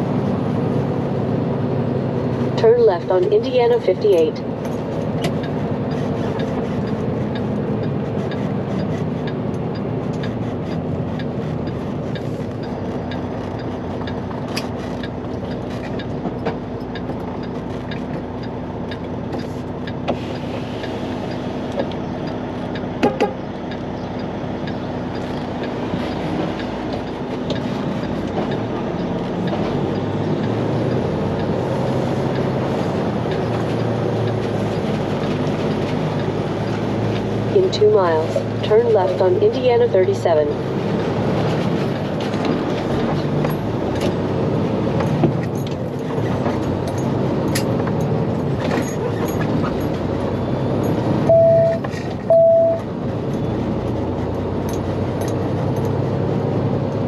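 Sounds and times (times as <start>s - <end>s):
diesel engine drone: 0.0s - 57.0s
road noise: 0.0s - 57.0s.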